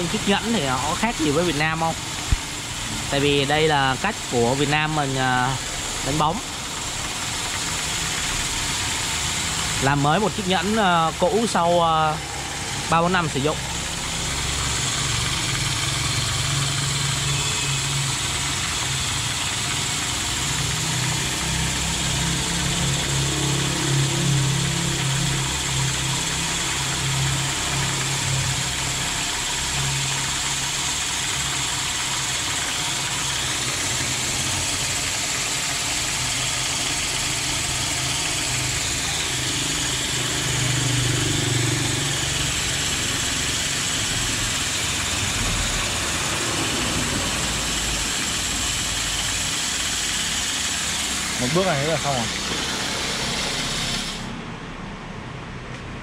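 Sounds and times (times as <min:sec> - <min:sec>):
water running from a hose: 0:00.0 - 0:54.3
machine humming: 0:00.0 - 0:55.0.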